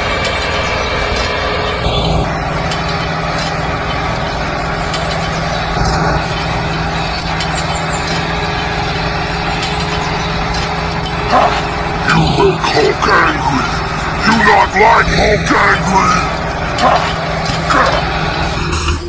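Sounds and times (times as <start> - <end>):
low hum: 0.0 - 19.0
toy tractor mechanical drone: 0.0 - 19.0.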